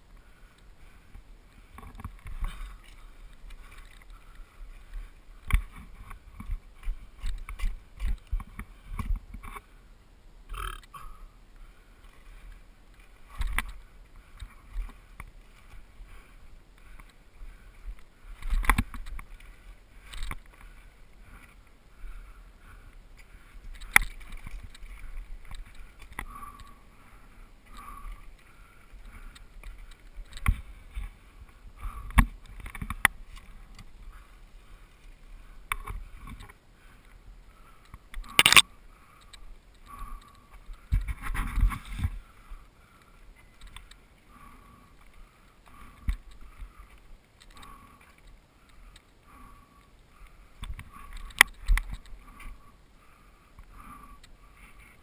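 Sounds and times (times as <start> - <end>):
low rumble of riding: 0.0 - 55.0.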